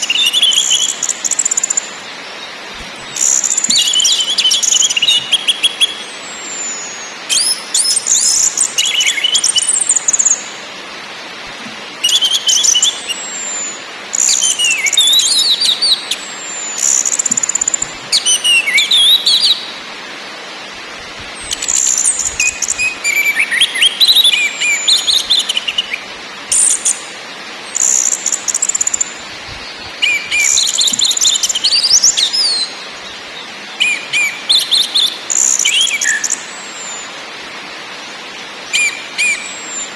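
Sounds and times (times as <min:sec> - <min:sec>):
thrush singing high whistles: 0:00.0 - 0:10.8, 0:12.0 - 0:19.9, 0:21.2 - 0:39.9
faint hiss: 0:00.0 - 0:39.9.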